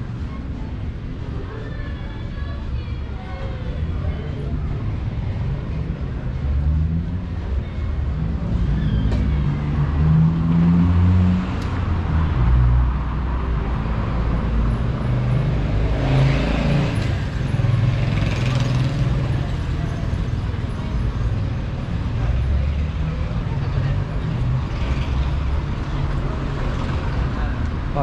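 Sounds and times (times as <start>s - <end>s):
traffic engines rumbling: 0.0s - 28.0s.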